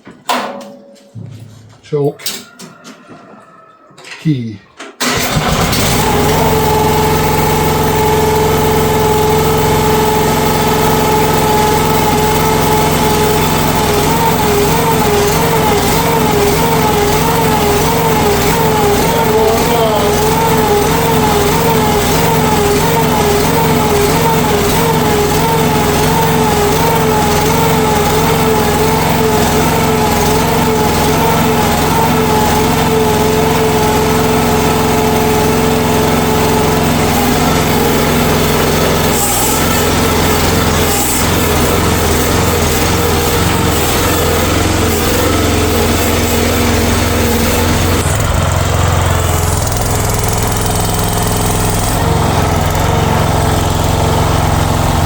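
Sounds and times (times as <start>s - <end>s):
mini excavator engine starting and running: 4.8s - 55.0s
wavering engine whine: 5.1s - 55.0s.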